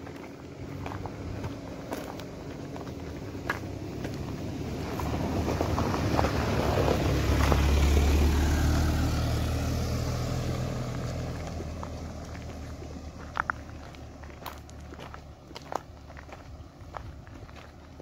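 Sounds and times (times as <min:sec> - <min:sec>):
car driving on gravel: 0:00.0 - 0:18.0.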